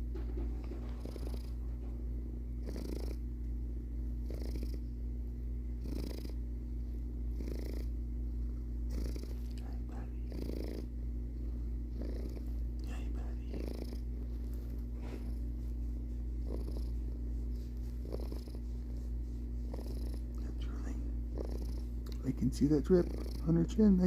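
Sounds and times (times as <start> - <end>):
cat purring close up: 0.4 - 1.7, 2.6 - 3.3, 4.1 - 4.9, 5.8 - 6.5, 7.2 - 24.0.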